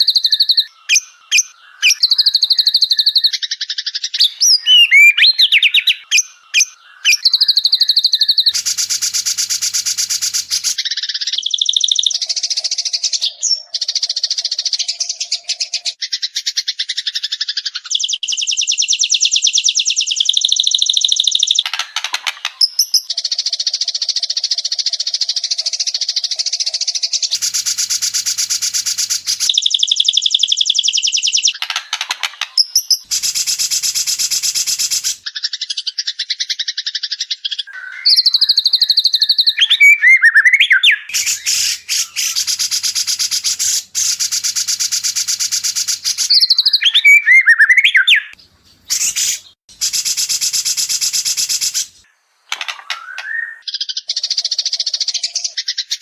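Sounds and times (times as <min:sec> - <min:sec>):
bird song fast repeated notes: 0:00.0 - 0:56.0.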